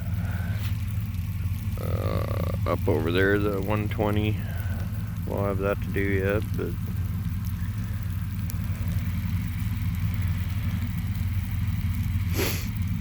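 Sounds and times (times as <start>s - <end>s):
farm machine engine droning: 0.0s - 13.0s.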